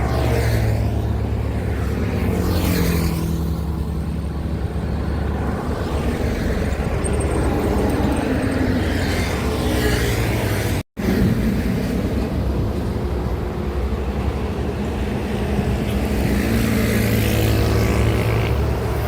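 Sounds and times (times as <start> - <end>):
trucks passing on highway: 0.0 - 19.0.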